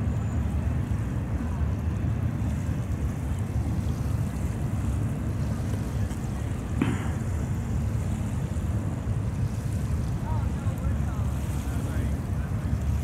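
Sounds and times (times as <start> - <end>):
distant diesel locomotive rumble: 0.0 - 13.0.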